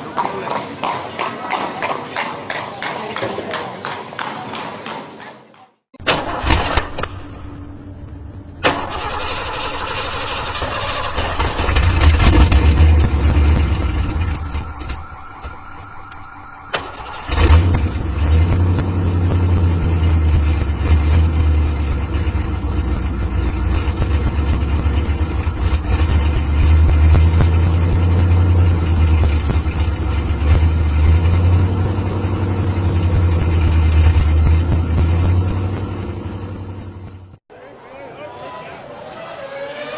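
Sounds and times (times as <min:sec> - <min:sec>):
vehicle engine starting and running: 0:05.8 - 0:39.9.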